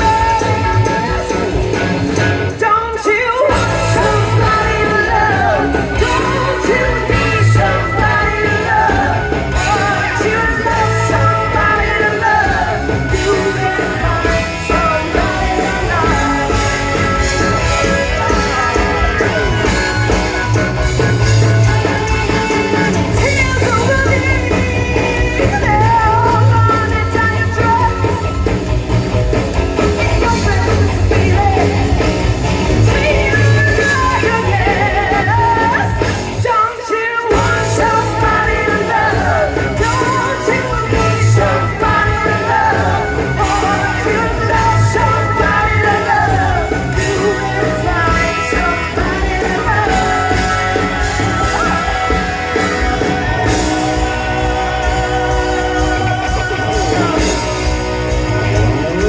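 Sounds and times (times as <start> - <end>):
lead singer singing: 0.0 - 59.0
live rock band playing: 0.0 - 59.0.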